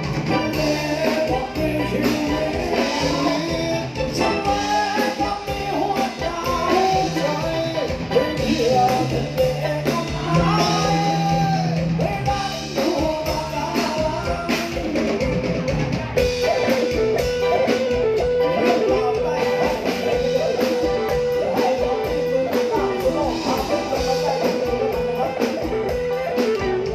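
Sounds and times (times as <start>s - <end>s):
live band music: 0.0s - 26.9s
person singing: 0.0s - 26.9s.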